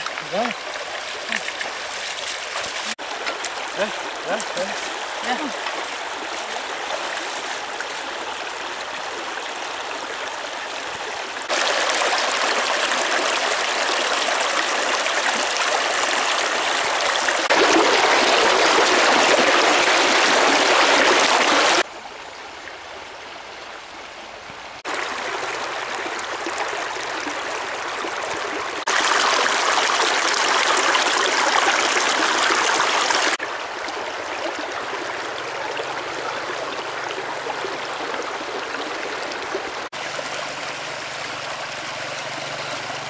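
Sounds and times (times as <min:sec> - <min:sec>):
stream rushing over stones: 0:00.0 - 0:21.9, 0:24.6 - 0:43.0.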